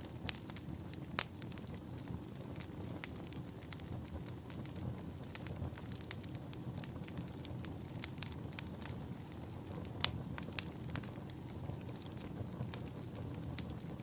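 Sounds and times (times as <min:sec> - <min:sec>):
fire pops and snaps: 0:00.0 - 0:14.0
wood fire crackling: 0:00.0 - 0:14.0.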